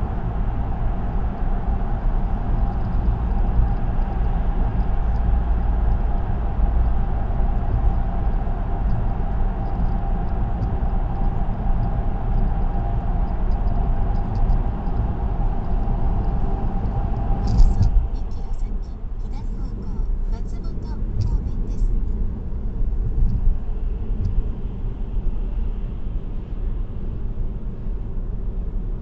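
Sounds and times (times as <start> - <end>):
car tyre and road rumble: 0.0 - 29.0
faint steady hum: 0.0 - 29.0.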